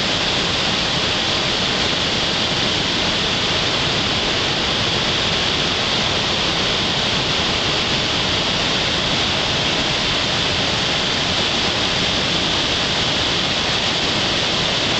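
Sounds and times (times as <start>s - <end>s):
floodwater rushing: 0.0s - 14.9s.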